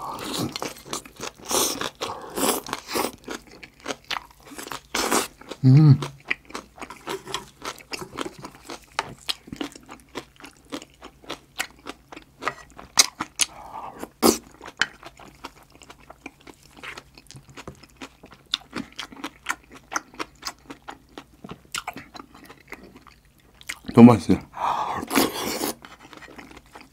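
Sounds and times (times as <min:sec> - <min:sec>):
chewing with wet crunches: 0:00.0 - 0:24.0, 0:25.0 - 0:26.9.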